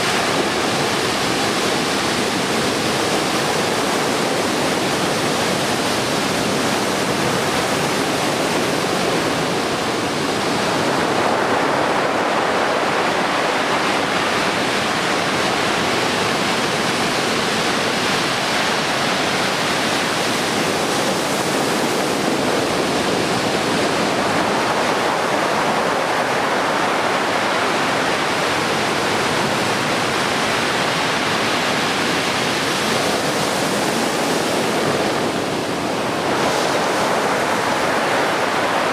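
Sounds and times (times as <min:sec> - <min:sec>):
heavy surf breaking: 0:00.0 - 0:38.9.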